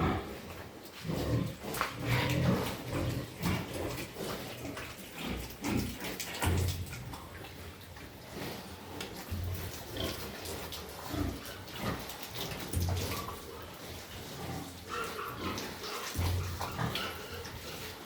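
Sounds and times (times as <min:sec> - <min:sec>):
pigs grunting: 0:00.0 - 0:07.4, 0:08.1 - 0:18.0.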